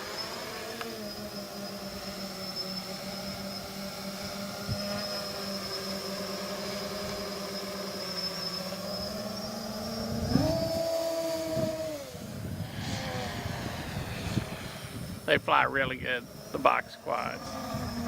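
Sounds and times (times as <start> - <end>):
quadcopter motors humming: 0.0 - 18.0.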